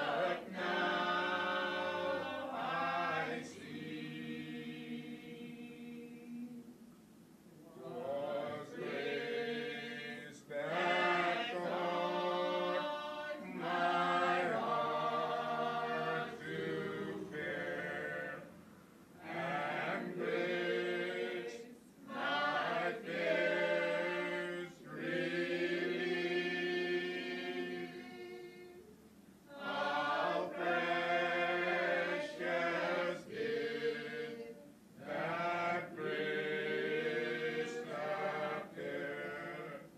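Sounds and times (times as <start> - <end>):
choir singing: 0.0 - 6.7, 7.7 - 18.6, 19.2 - 28.9, 29.5 - 39.9.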